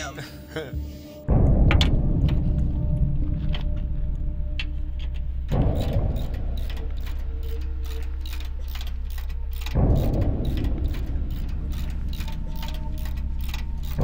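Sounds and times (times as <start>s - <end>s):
background music with ticking beat: 0.0s - 14.0s.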